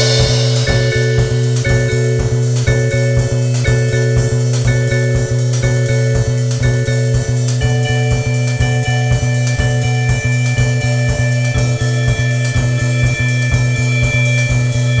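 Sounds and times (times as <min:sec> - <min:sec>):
low bass note: 0:00.0 - 0:15.0
steady drum beat: 0:00.0 - 0:15.0.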